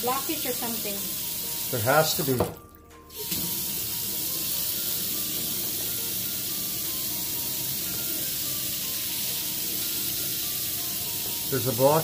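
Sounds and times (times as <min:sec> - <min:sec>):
faucet water running into sink: 0:00.0 - 0:12.0.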